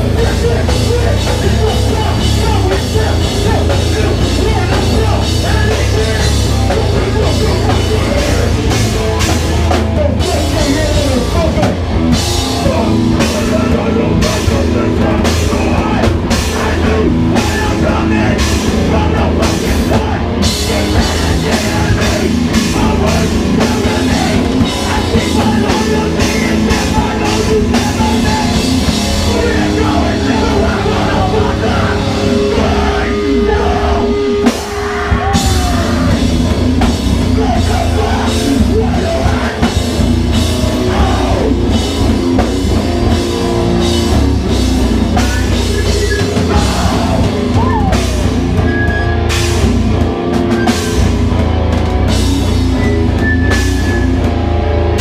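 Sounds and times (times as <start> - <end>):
punk band playing live: 0.0 - 55.0.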